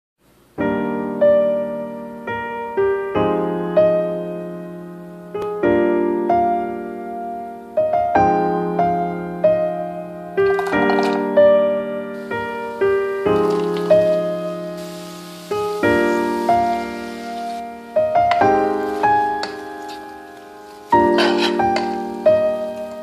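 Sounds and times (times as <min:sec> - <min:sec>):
slow gentle piano music: 0:00.3 - 0:23.0.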